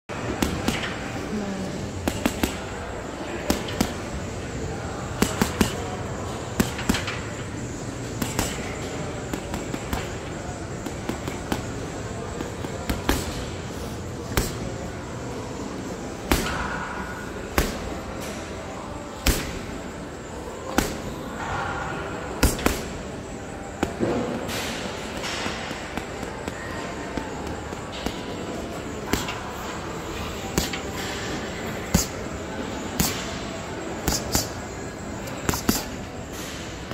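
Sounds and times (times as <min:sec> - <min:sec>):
steady background hum: 0:00.1 - 0:36.9.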